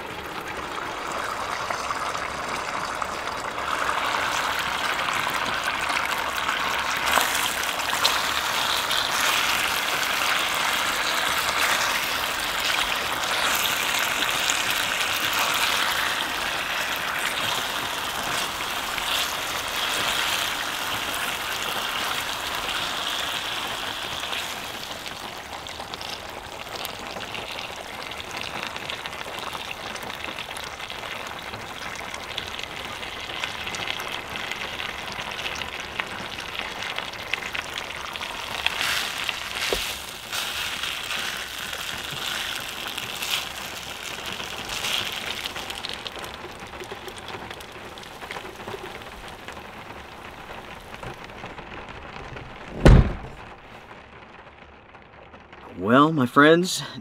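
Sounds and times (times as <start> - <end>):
food sizzling and bubbling in pot: 0.0 - 56.6.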